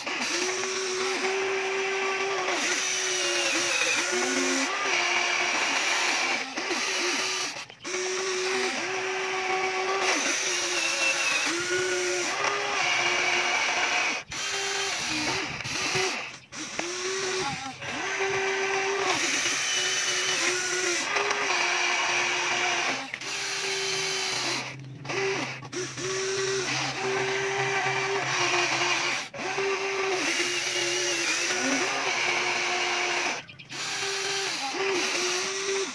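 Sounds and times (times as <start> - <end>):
toy excavator motors whining: 0.0 - 35.9.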